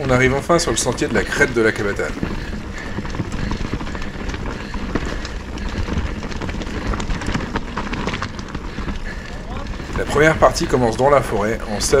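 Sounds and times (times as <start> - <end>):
bike rattling and clicking: 0.0 - 12.0
bike tyres rumbling on dirt: 0.0 - 12.0.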